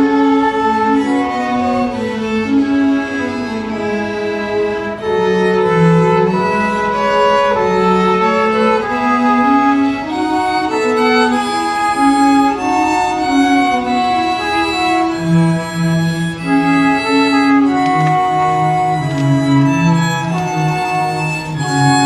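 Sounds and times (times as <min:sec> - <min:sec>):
baroque string music: 0:00.0 - 0:22.0.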